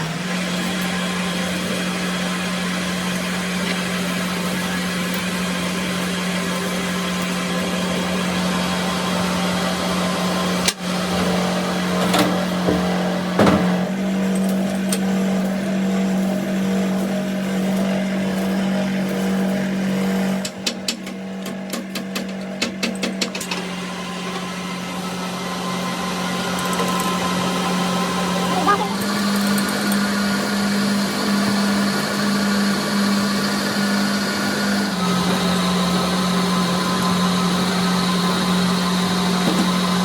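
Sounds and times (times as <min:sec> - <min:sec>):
machine humming: 0:00.0 - 0:40.0.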